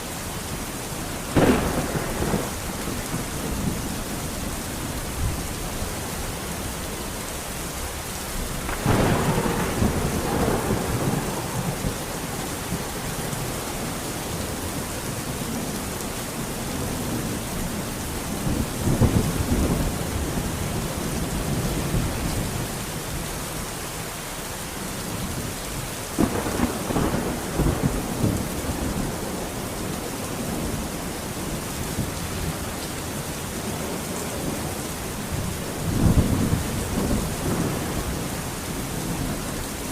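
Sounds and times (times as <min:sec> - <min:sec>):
steady rain: 0:00.0 - 0:39.9
thunder claps and rumbles: 0:01.3 - 0:06.6, 0:07.7 - 0:23.3, 0:25.0 - 0:39.9.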